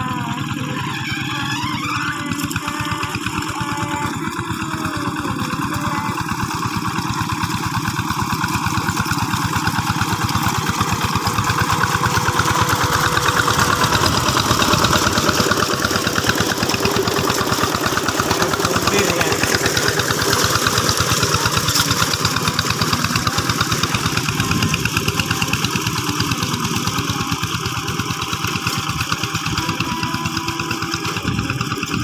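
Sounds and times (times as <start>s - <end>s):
diesel engine chugging: 0.0s - 32.0s.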